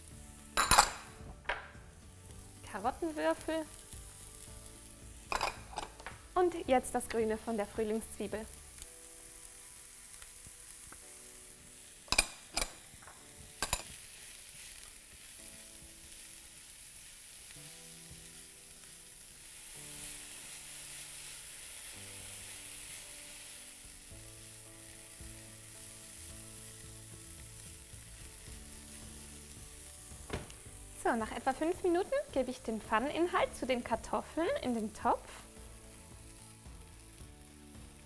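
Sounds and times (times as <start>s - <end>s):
vegetables sizzling in a frying pan: 0.0s - 38.0s.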